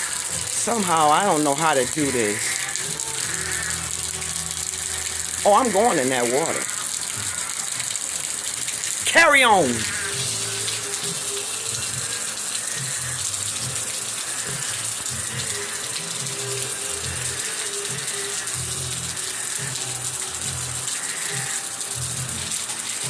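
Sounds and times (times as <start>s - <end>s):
heavy rain: 0.0s - 23.0s
running floodwater: 0.0s - 23.0s.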